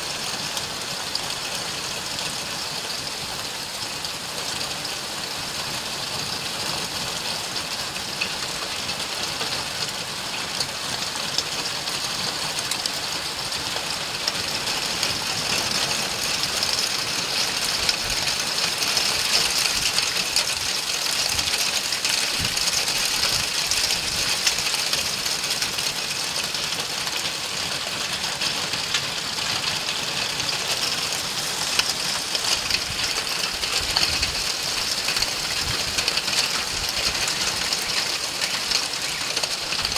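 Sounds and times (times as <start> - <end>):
heavy rain and hail on pavement: 0.0 - 39.9.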